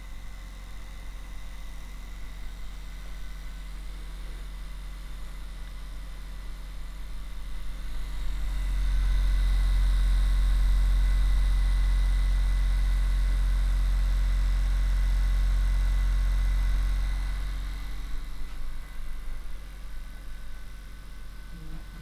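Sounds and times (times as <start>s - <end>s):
massage gun motor humming: 0.0s - 22.0s.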